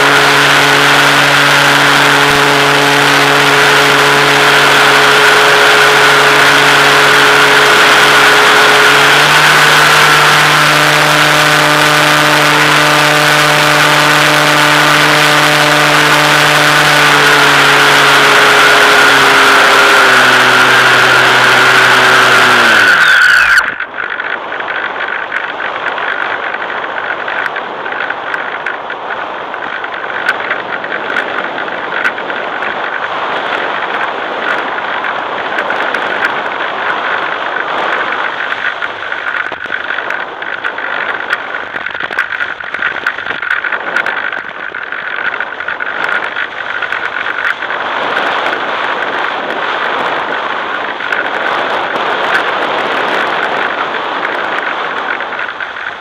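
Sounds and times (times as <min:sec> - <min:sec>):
model plane motor whine: 0:00.0 - 0:56.0.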